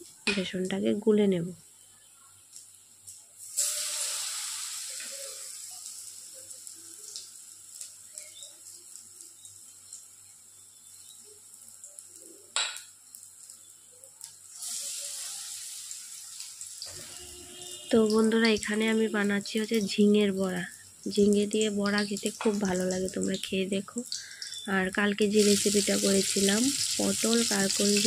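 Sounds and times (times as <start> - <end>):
batter slices sizzling in hot oil: 1.6 - 28.0.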